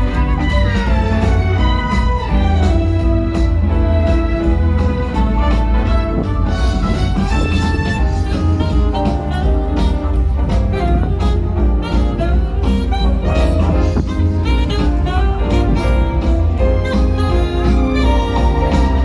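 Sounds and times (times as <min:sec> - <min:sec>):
jazzy swing music with brass: 0:00.0 - 0:19.0.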